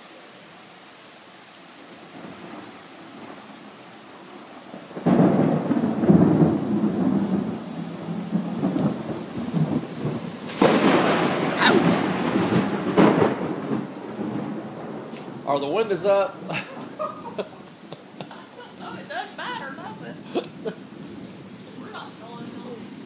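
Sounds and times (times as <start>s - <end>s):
rain hiss: 0.0s - 23.0s
thunder rumbling: 2.1s - 23.0s.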